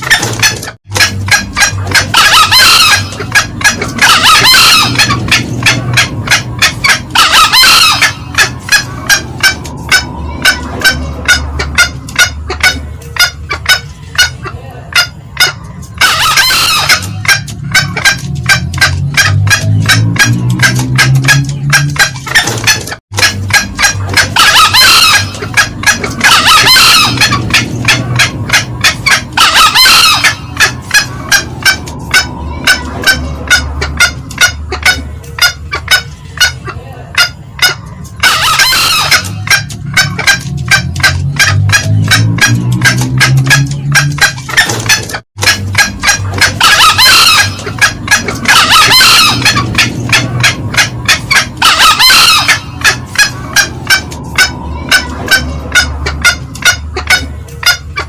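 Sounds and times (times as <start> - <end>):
junglefowl cackling notes: 0.0 - 58.0
junglefowl harsh call: 0.0 - 58.0.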